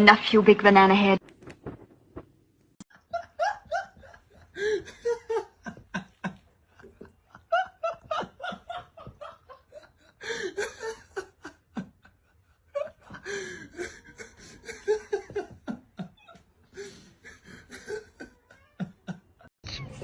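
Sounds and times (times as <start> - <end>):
person laughing: 3.0 - 19.5.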